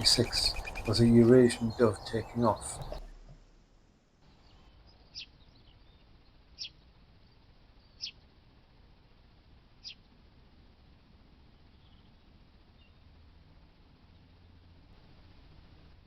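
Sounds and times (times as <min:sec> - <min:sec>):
small bird chirping: 0:00.0 - 0:03.4, 0:04.2 - 0:10.4, 0:11.3 - 0:16.0
faint outdoor background noise: 0:00.0 - 0:16.0.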